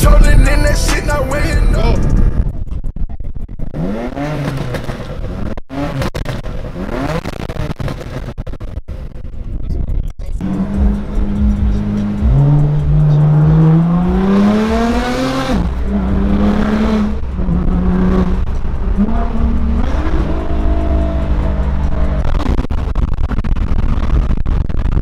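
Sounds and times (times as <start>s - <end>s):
car engine accelerating hard: 3.6s - 9.1s, 10.4s - 25.0s.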